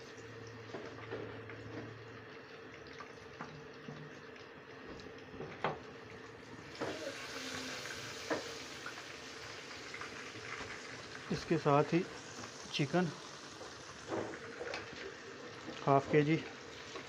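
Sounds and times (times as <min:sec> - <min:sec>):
paste frying in hot oil: 0:00.0 - 0:17.0.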